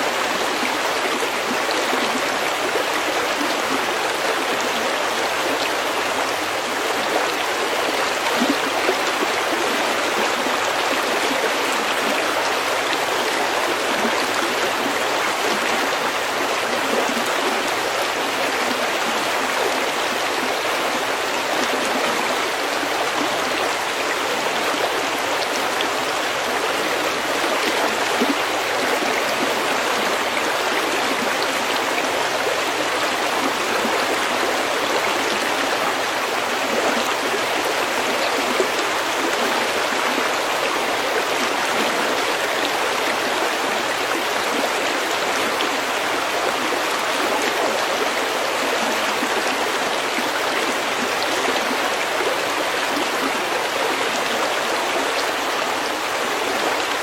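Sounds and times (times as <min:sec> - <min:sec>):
stream flowing over pebbles: 0:00.0 - 0:57.0.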